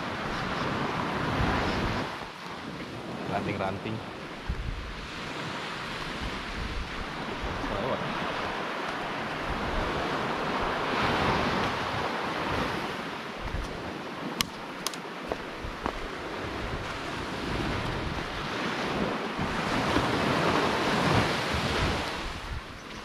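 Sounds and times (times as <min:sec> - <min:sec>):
surf washing on a beach: 0:00.0 - 0:23.0
wind: 0:00.0 - 0:23.0.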